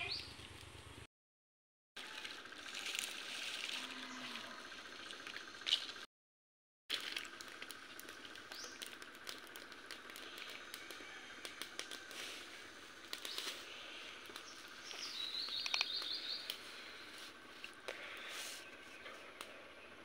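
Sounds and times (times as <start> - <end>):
outdoor background noise: 0.0 - 1.1, 2.0 - 6.1, 6.9 - 20.0.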